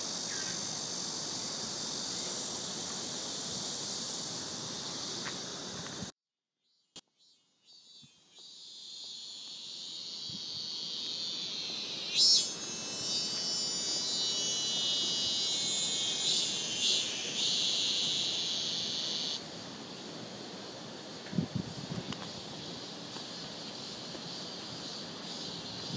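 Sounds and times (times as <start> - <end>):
high-pitched buzzing hiss: 0.0 - 6.1, 6.7 - 25.9.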